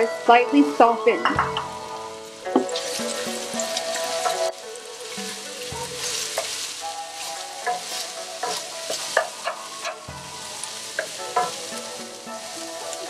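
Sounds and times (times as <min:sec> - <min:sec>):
onions sizzling in oil: 0:00.0 - 0:13.0
wooden spatula scraping a pan: 0:01.8 - 0:13.0.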